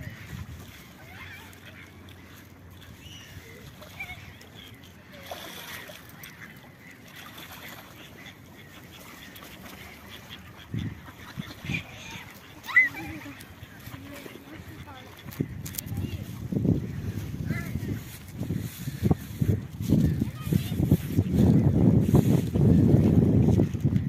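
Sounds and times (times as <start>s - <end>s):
ducks quacking: 0.0s - 23.4s
water splashing: 0.0s - 24.0s.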